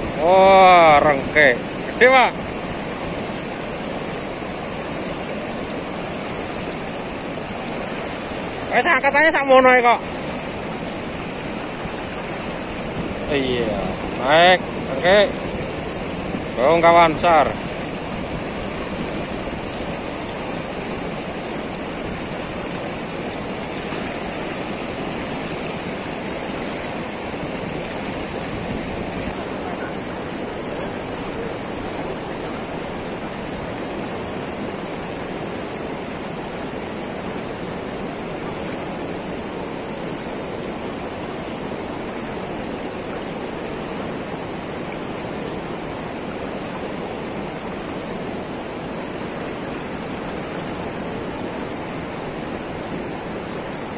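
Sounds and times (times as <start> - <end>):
water rushing over weir: 0.0 - 53.9.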